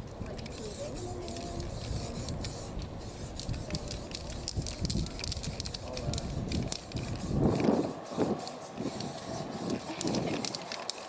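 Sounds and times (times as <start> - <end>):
spray-paint can hissing: 0.4 - 11.0.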